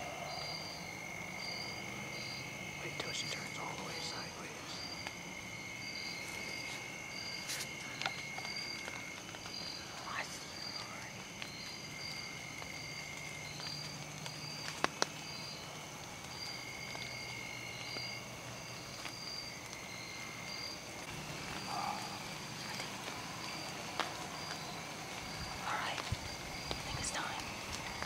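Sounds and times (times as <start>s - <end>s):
insects trilling: 0.0s - 28.0s
pulsed insect call: 0.0s - 28.0s.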